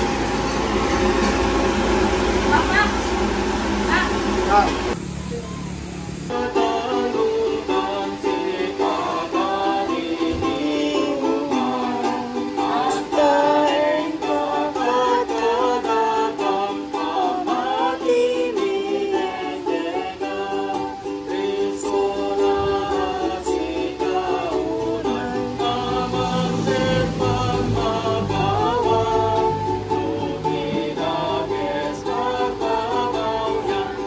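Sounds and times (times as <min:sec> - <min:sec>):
group singing a hymn: 0:00.0 - 0:05.0, 0:06.3 - 0:34.0
strummed ukulele: 0:00.0 - 0:34.0.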